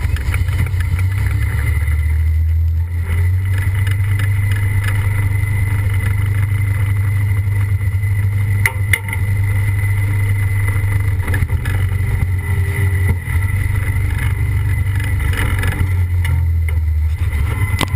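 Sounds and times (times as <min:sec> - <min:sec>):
tractor engine running under load: 0:00.0 - 0:17.9.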